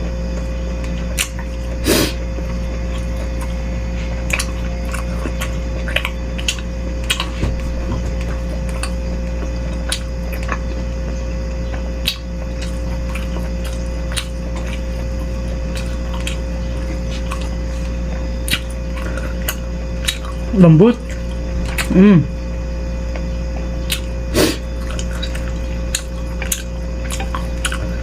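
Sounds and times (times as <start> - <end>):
low electrical hum: 0.0 - 28.0
wet chewing and smacking: 0.0 - 28.0.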